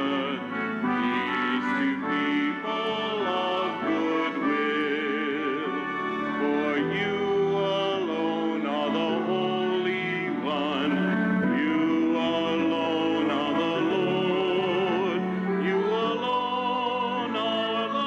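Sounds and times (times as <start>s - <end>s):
man singing with vibrato: 0.0s - 18.0s
sustained instrumental accompaniment: 0.0s - 18.0s.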